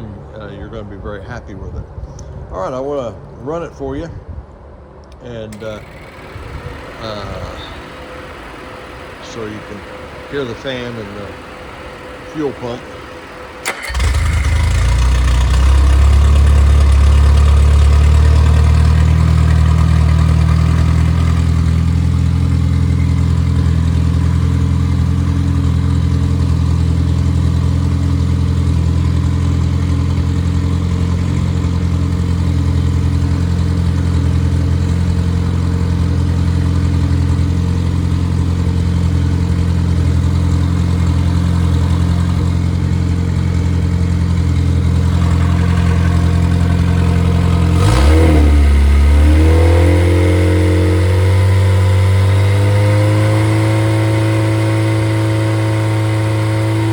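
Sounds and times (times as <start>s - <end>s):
car engine starting and idling: 4.9s - 56.9s.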